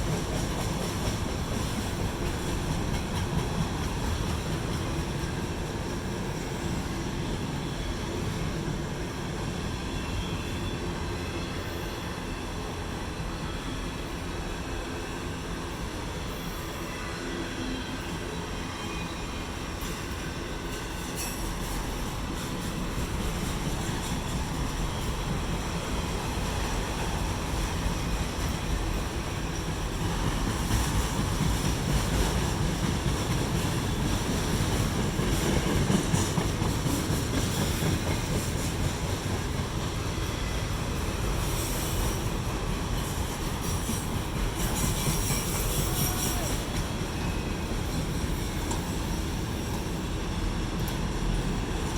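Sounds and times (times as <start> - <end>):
freight train wheels rumbling on rails: 0.0 - 51.9.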